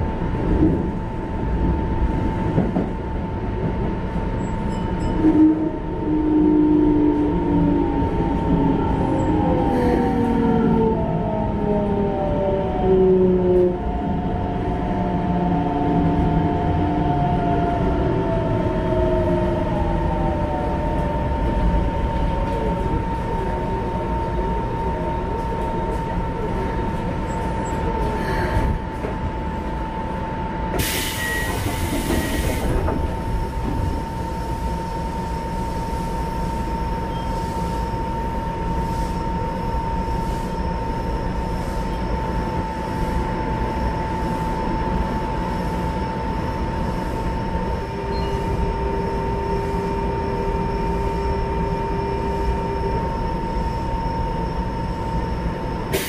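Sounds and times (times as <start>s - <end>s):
train inverter whining: 0.0s - 56.0s.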